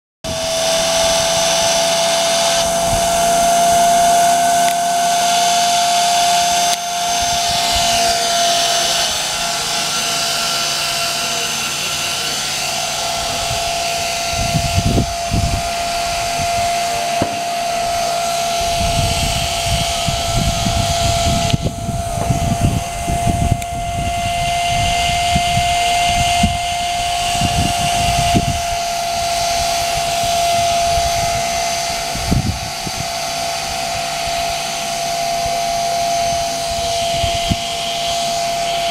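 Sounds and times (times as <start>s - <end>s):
gusty low rumbling: 0.2s - 9.5s, 12.7s - 33.2s, 35.3s - 38.5s
model helicopter whining: 0.2s - 38.9s.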